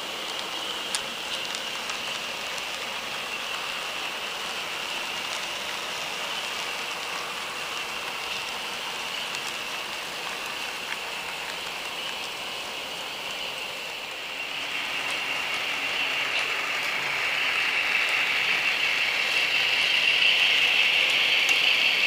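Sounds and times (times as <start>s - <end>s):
model train wheels hissing on rail: 0.0s - 22.0s.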